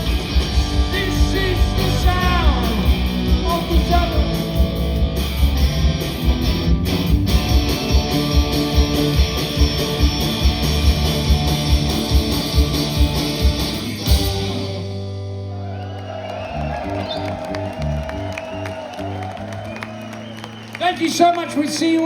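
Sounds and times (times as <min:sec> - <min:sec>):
punk rock band playing: 0:00.0 - 0:21.2.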